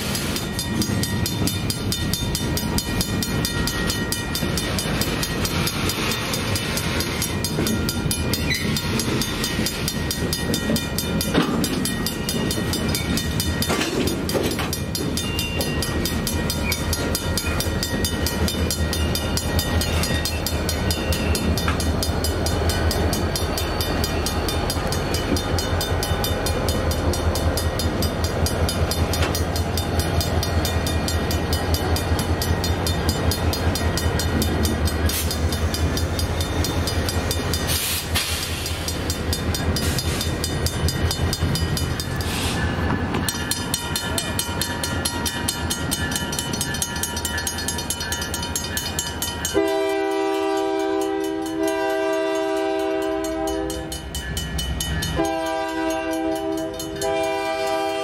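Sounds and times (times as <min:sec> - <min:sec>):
train rumbling past: 0:00.0 - 0:58.0.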